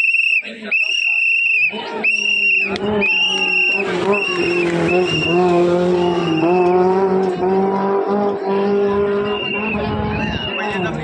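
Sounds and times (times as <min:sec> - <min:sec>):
car engine at high revs: 0:01.7 - 0:11.0.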